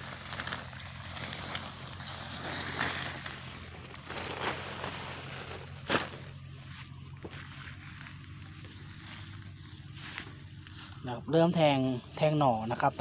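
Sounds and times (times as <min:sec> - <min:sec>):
bamboo leaves rustling: 0:00.0 - 0:13.0
stalks crackling: 0:00.0 - 0:13.0.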